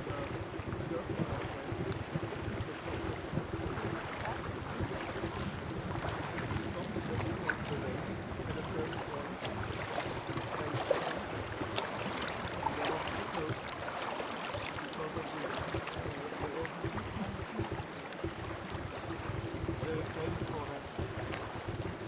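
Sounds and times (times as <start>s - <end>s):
light clicks and splashes: 0.0s - 22.0s
water lapping at shore: 0.0s - 22.0s.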